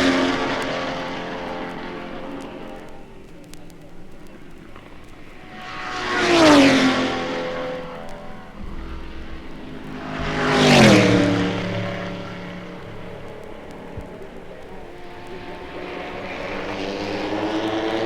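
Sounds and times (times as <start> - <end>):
racing cars passing at speed: 0.0 - 18.0.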